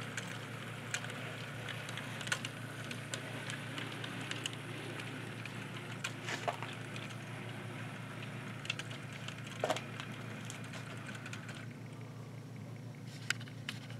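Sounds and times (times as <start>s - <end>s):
model train wheels clicking: 0.0s - 11.7s
steady low hum: 0.0s - 13.9s.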